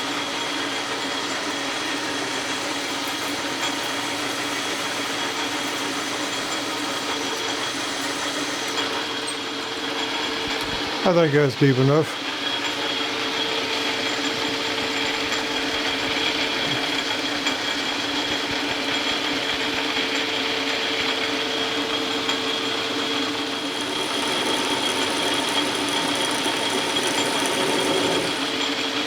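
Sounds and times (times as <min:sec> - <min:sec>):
metal lathe whining: 0:00.0 - 0:11.0, 0:12.2 - 0:29.0.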